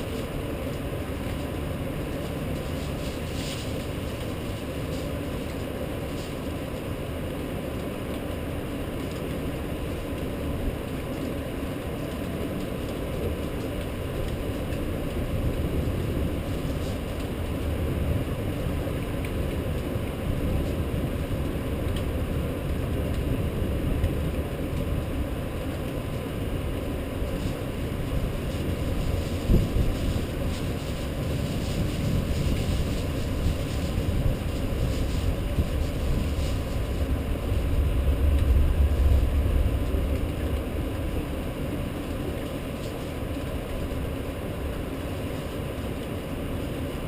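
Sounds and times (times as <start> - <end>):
rain: 0.0 - 47.0
wind: 0.0 - 47.0.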